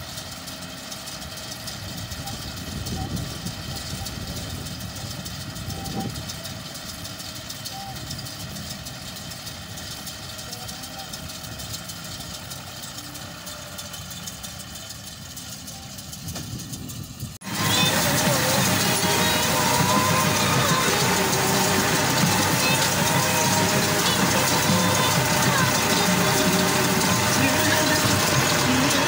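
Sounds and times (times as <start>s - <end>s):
round baler working: 0.0s - 29.0s
tractor engine running: 0.0s - 29.0s.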